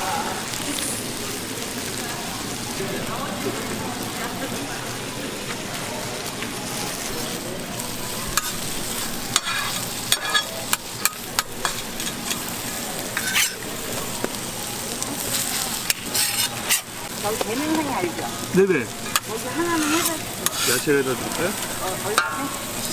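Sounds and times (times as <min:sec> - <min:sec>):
food sizzling on a griddle: 0:00.0 - 0:22.9.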